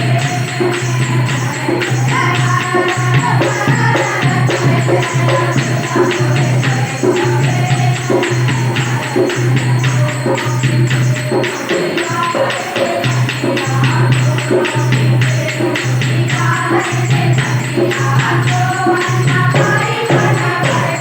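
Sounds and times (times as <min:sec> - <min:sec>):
drum beat: 0:00.0 - 0:21.0
jingling hand percussion: 0:00.0 - 0:21.0
voices singing folk song: 0:00.0 - 0:21.0.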